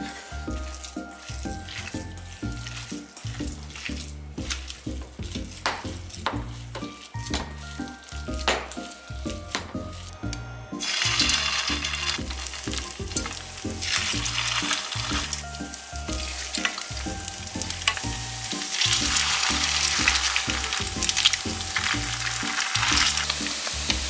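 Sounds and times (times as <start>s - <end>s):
light background music beat: 0.0s - 24.0s
mixture kneaded by hand: 0.0s - 24.0s
patties sizzling in hot oil: 0.0s - 24.0s.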